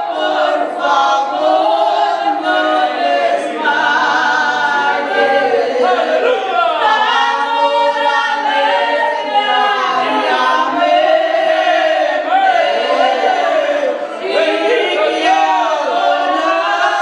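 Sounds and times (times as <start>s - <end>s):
women singing a hymn: 0.0s - 17.0s.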